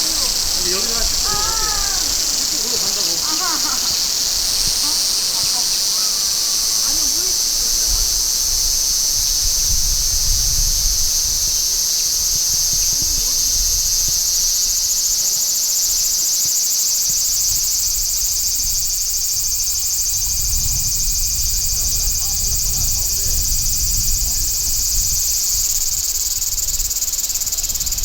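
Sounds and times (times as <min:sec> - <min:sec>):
cicada buzzing: 0:00.0 - 0:28.0.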